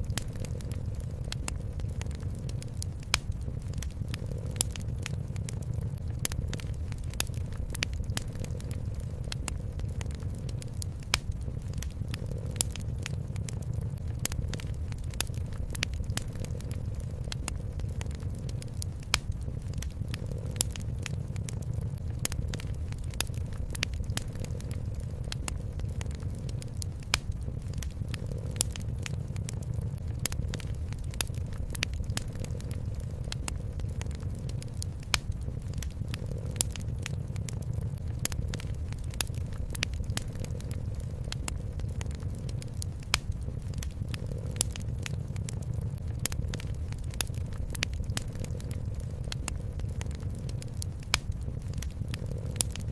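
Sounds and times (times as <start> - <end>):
fireplace fire crackling: 0.0 - 52.9
low purring: 0.0 - 52.9.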